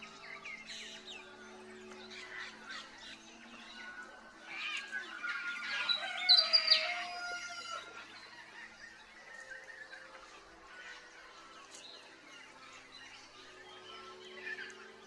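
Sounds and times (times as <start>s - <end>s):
wild birds calling: 0.0s - 15.0s.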